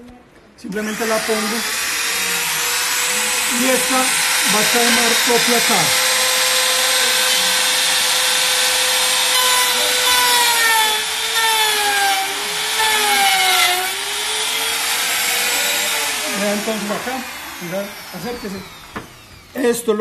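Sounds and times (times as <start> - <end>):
router bit cutting particleboard: 0.7 - 19.7
electric router motor whine: 0.7 - 19.8.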